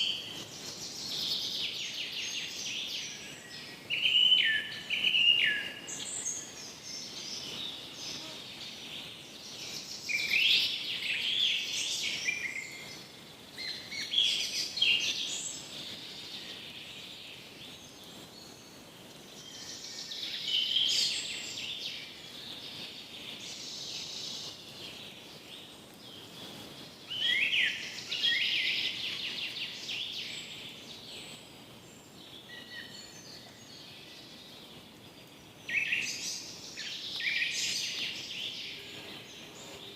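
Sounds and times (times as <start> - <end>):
breeze hiss: 0.0 - 39.9
songbirds chirping and trilling: 0.0 - 39.9.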